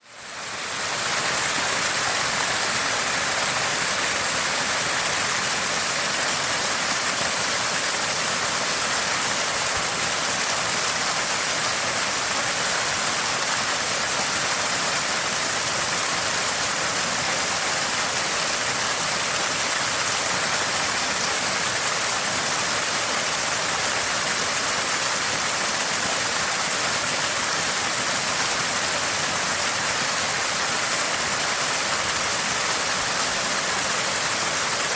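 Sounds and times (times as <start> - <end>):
spring water gushing and gurgling: 0.0 - 34.9.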